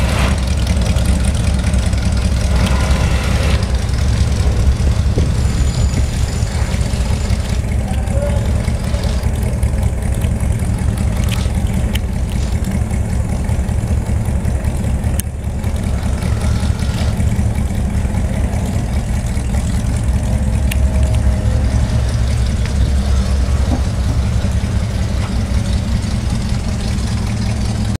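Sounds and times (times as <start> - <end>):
car engines idling: 0.0 - 28.0.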